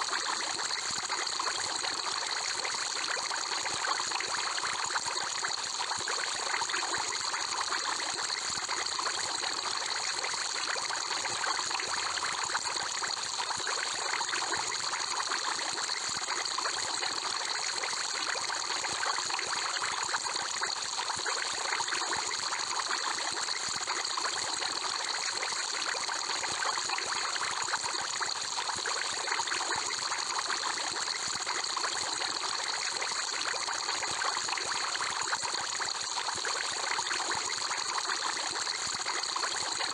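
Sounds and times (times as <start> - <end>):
water bubbling and trickling: 0.2 - 39.9.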